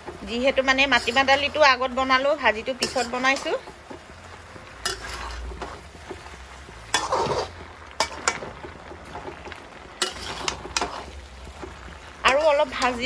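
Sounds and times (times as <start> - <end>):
low frying sizzle: 0.0 - 13.0
metal spatula stirring in wok: 0.0 - 13.0.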